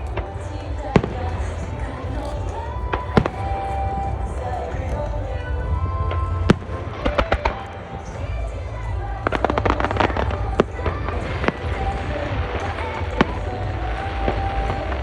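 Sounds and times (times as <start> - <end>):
fireworks bangs and crackling: 0.0 - 15.0
music: 0.0 - 15.0.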